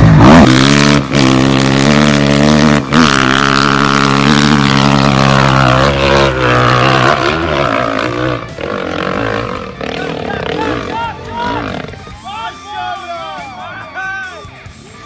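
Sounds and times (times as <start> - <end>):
dirt bike engine revving: 0.0 - 12.2.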